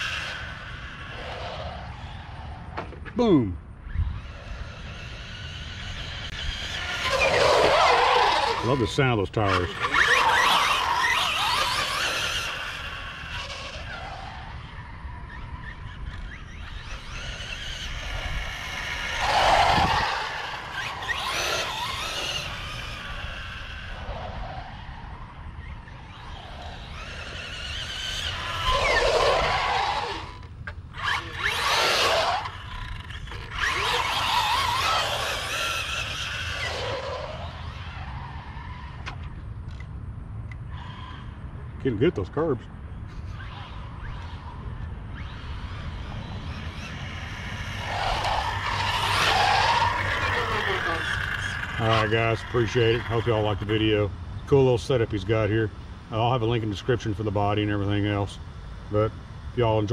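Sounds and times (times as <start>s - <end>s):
tires squealing on concrete: 0.0s - 39.8s, 40.5s - 59.9s
rc car motor whining: 0.0s - 59.9s.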